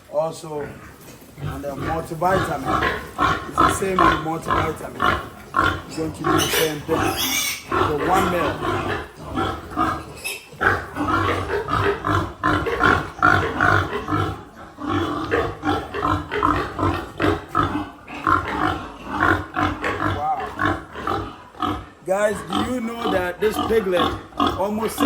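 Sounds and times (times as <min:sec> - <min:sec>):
piglets calling: 0:00.4 - 0:25.0.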